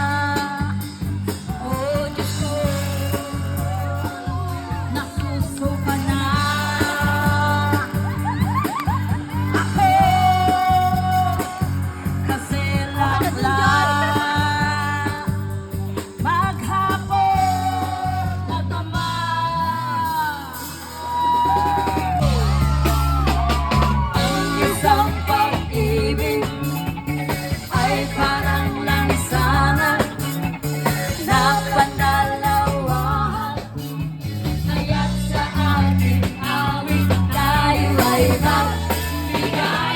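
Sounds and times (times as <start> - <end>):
bass line: 0.0 - 39.9
guitar: 0.0 - 39.9
person singing: 0.0 - 39.9.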